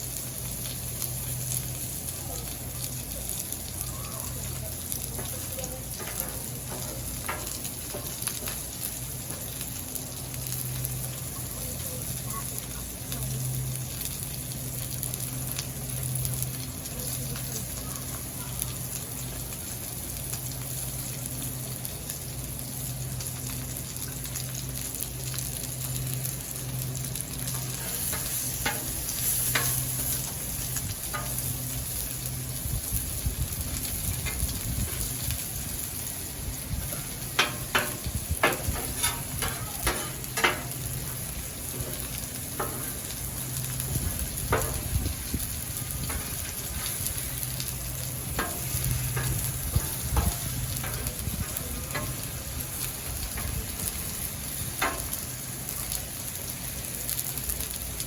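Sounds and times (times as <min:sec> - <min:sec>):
food sizzling on griddle: 0:00.0 - 0:58.0.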